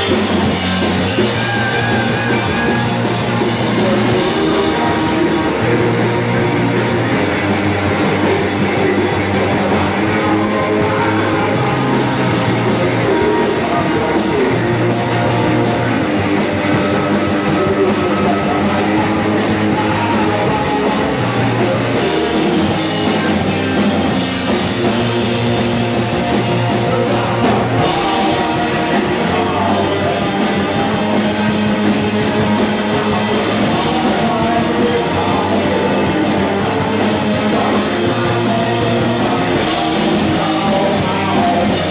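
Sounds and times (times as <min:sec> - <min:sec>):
bass guitar: 0:00.0 - 0:41.9
drum kit beat: 0:00.0 - 0:41.9
electric guitar: 0:00.0 - 0:41.9.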